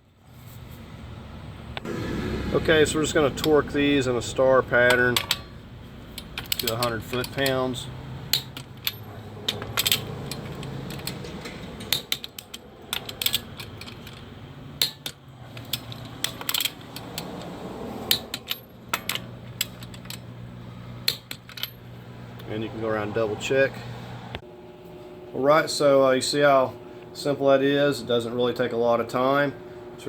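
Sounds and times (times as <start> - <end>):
steady low hum: 0.2 - 30.0.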